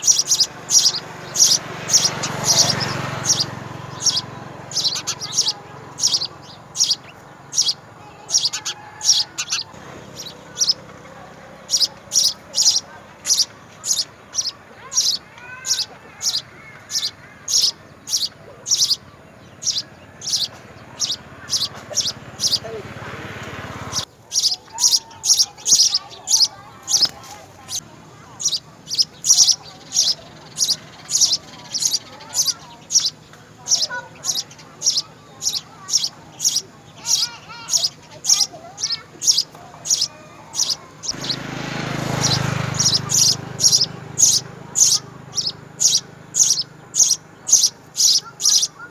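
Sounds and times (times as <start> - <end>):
lower arching bird calls: 0.0 - 48.9
small bird chirping: 0.0 - 48.9.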